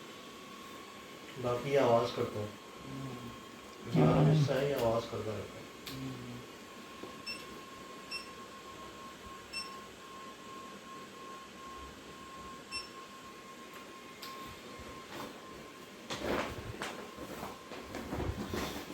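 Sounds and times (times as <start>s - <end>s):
faint electronic whine: 0.0s - 17.5s.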